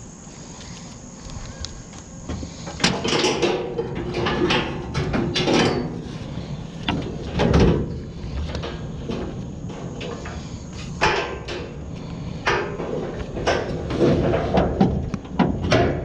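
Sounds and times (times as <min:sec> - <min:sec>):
hard objects clattering and scraping: 0:02.3 - 0:16.0.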